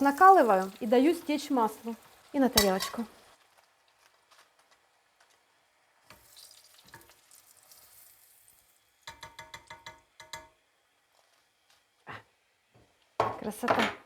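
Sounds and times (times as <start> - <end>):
oil sizzling in a pan: 0.0 - 13.7.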